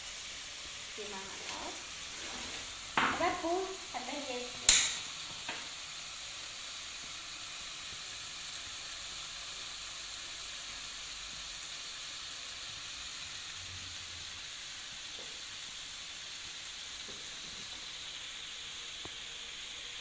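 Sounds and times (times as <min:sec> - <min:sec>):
meat sizzling in oil: 0:00.0 - 0:20.0.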